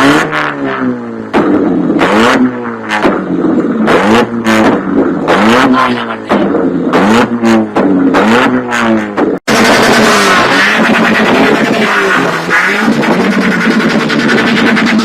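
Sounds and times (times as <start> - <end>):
car engine revving: 0.0 - 15.0
exhaust popping and banging: 0.0 - 15.0.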